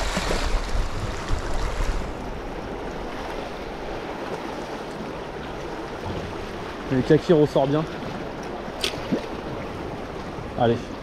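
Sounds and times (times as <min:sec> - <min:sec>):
sea water lapping over rocks: 0:00.0 - 0:11.0.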